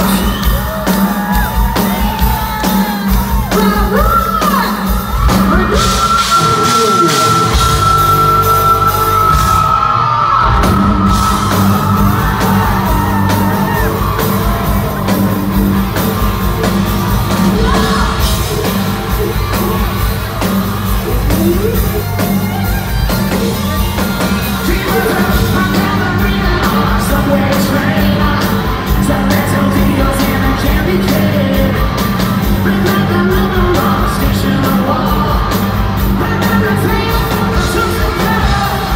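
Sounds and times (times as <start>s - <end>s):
live hard rock band: 0.0s - 38.9s
singer yelling and singing: 0.0s - 38.9s.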